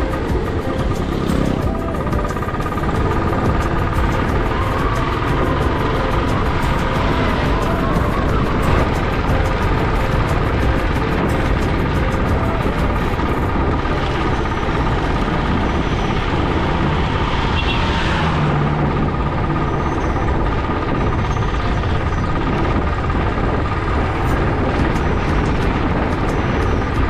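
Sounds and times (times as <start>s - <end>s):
motorcycle engine: 0.0s - 27.0s
rushing wind noise: 0.0s - 27.0s.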